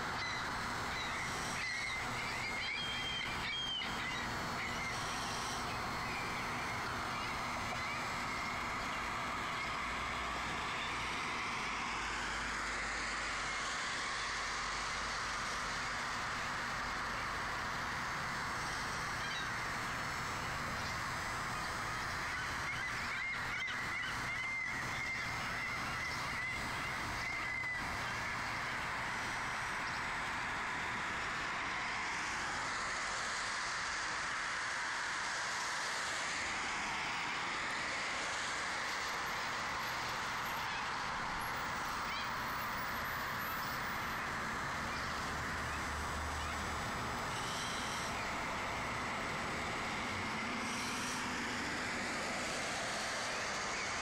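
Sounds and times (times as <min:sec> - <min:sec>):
street traffic hiss: 0:00.0 - 0:54.0.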